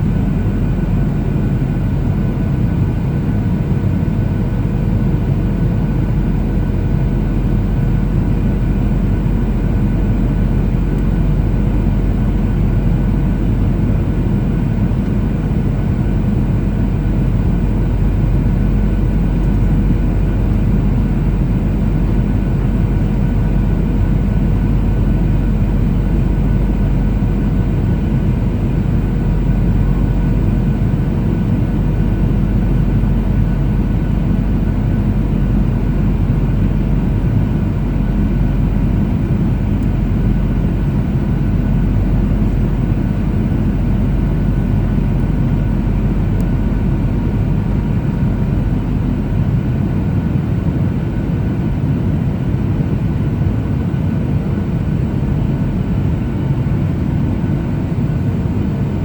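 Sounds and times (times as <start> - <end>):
airplane cabin rumble: 0.0 - 59.0
faint jet engine tones: 0.0 - 59.0.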